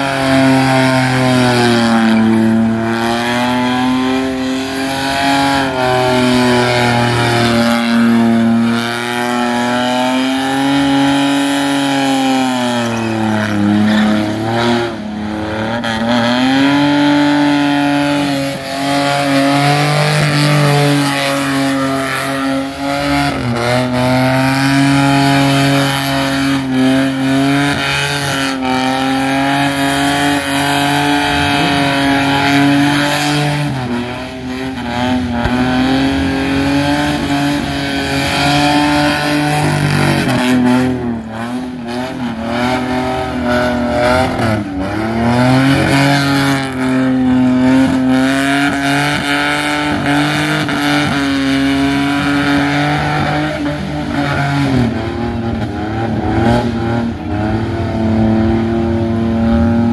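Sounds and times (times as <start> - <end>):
car engine revving high: 0.0 - 59.9.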